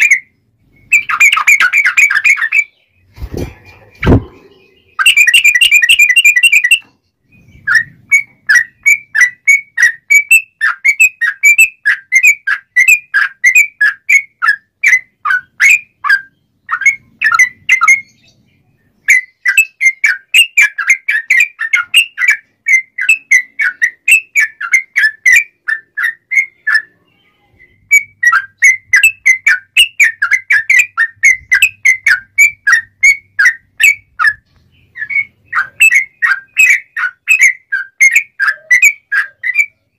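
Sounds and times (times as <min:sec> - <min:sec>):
bird singing whistled notes: 0:00.0 - 0:03.1, 0:03.8 - 0:39.9.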